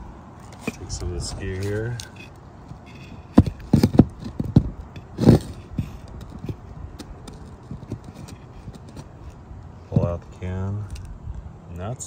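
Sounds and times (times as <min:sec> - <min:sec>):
tools knocking and clunking: 0:00.4 - 0:10.2.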